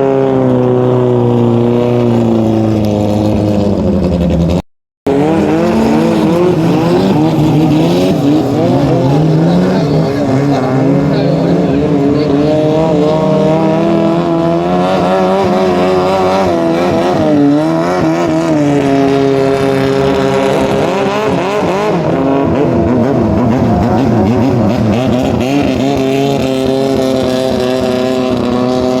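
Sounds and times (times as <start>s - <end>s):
boat engine at high revs: 0.0s - 29.0s.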